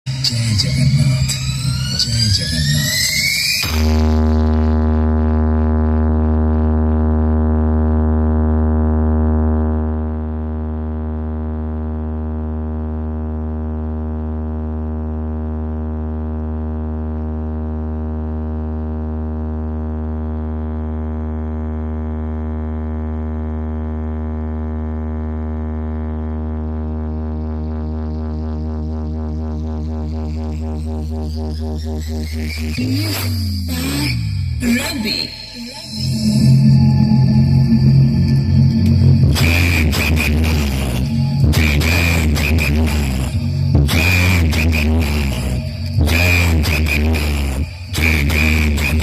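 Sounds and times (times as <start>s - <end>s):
electronic bass drone: 0.0s - 49.0s.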